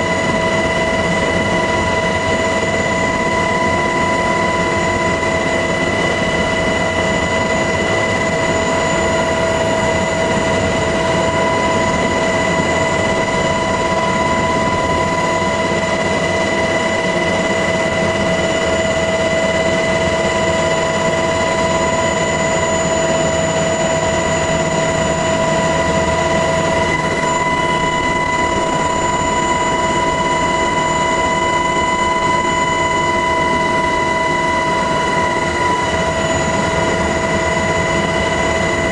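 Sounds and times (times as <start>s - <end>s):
helicopter rotor and engine rumble: 0.0s - 38.9s
high steady whine: 0.0s - 38.9s.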